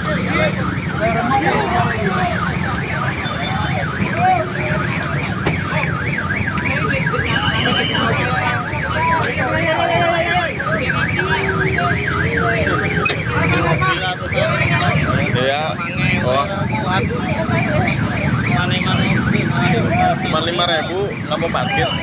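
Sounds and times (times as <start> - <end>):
car alarm warbling: 0.0 - 22.0
crowd chatter: 0.0 - 22.0.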